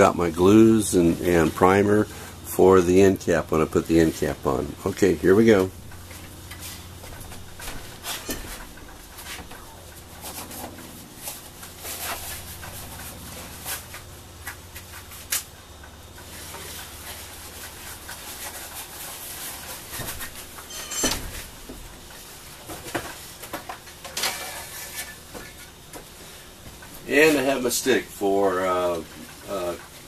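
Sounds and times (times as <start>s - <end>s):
rustling and scraping: 0.0s - 30.0s.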